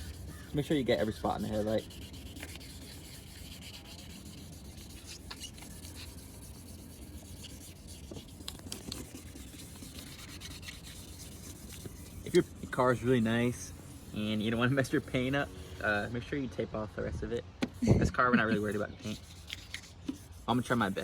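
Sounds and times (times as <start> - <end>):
sandpaper rubbing on plastic: 0.0 - 16.1, 17.6 - 21.0.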